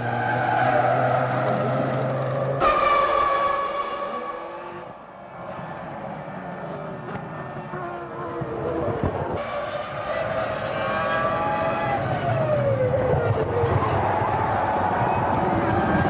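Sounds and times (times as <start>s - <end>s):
race car engines at high revs: 0.0s - 5.0s, 5.8s - 16.0s.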